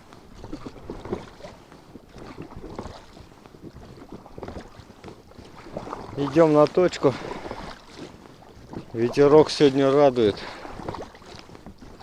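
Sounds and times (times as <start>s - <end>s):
water splashing against hull: 0.0s - 12.0s
wind buffeting microphone: 0.0s - 12.0s.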